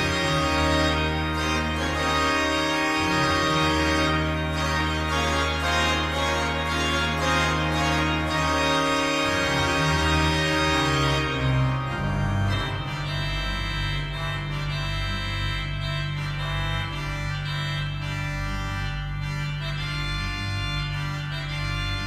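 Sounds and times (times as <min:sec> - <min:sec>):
organ chords: 0:00.0 - 0:22.0.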